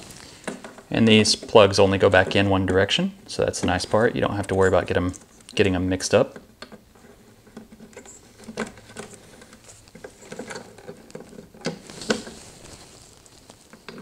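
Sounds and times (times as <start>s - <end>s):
wires rustling: 0.0s - 14.0s.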